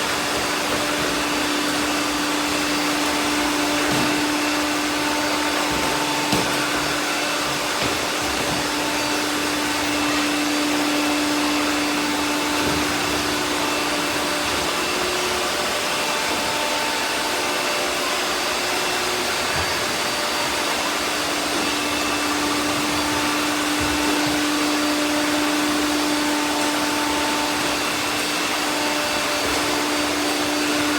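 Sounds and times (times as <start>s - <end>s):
robot vacuum cleaners whirring: 0.0s - 30.9s.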